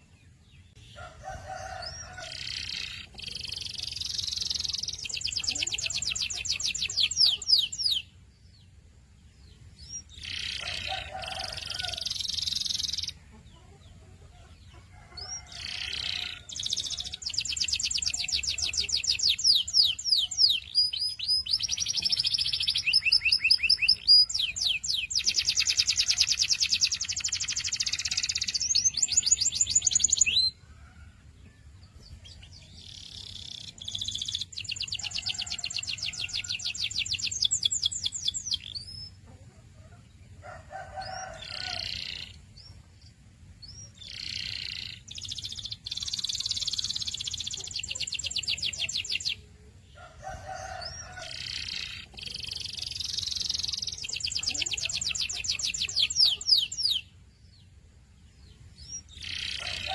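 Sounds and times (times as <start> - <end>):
canary singing trills: 0.0 - 30.8, 31.9 - 59.9.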